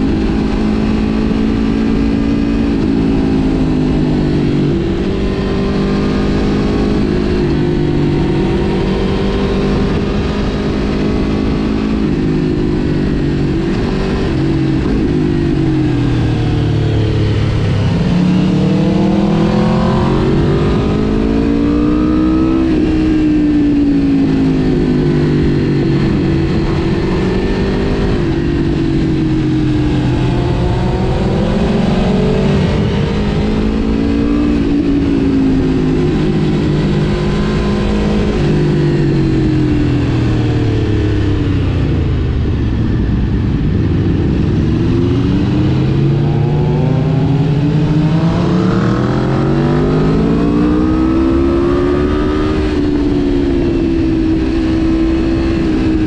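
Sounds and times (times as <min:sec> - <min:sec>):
motorcycle engine revving: 0:00.0 - 0:56.0
steady rushing noise: 0:00.0 - 0:56.0.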